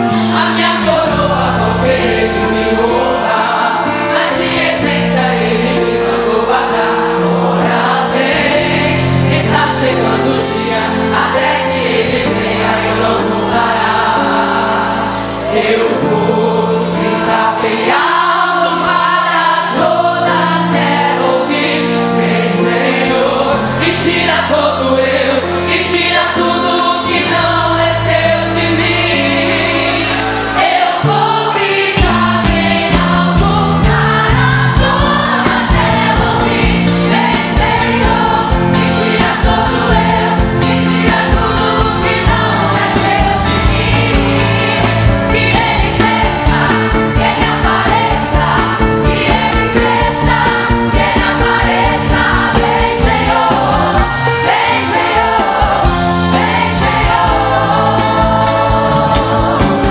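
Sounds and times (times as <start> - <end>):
choir singing gospel: 0.0 - 59.9.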